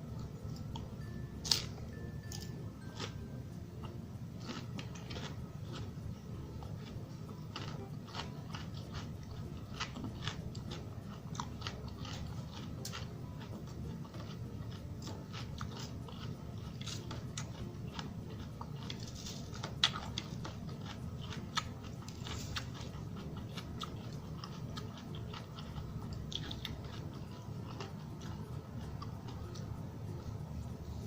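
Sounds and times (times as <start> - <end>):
person chewing crunchy salad: 0.1 - 31.0.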